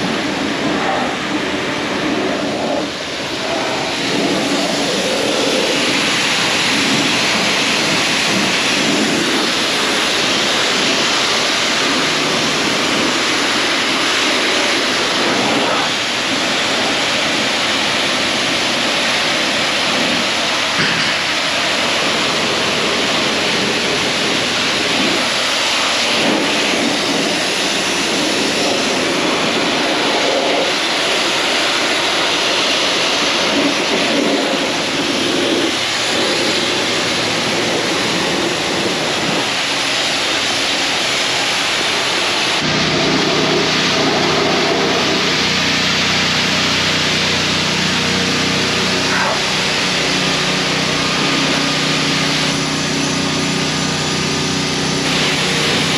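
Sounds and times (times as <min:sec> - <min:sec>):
pressure washer spraying water: 0:00.0 - 0:55.9
pump motor humming: 0:00.0 - 0:55.9.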